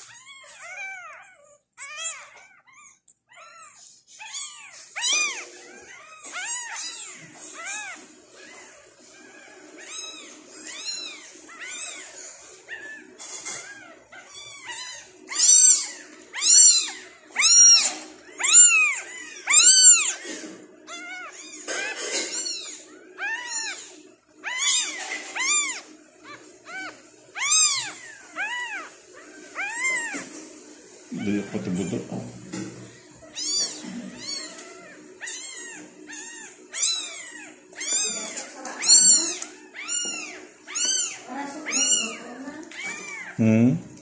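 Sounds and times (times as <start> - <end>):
kitten meowing: 0.0 - 20.3, 20.9 - 30.3, 31.1 - 32.6, 33.2 - 43.4.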